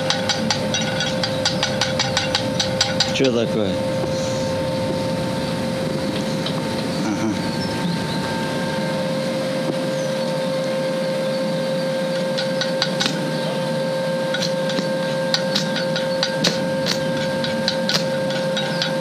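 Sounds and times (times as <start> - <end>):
welding arc sizzling: 0.0 - 19.0
welding machine whine: 0.0 - 19.0.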